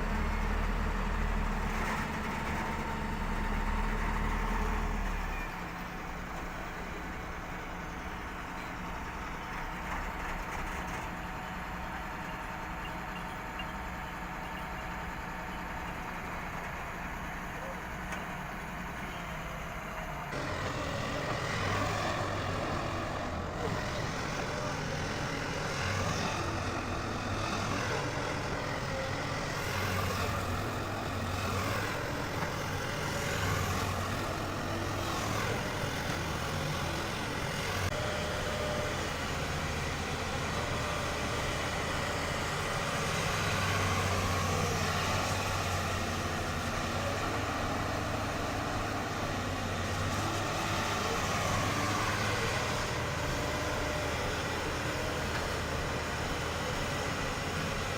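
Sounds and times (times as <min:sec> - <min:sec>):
excavator diesel engine droning: 0:00.0 - 0:57.9.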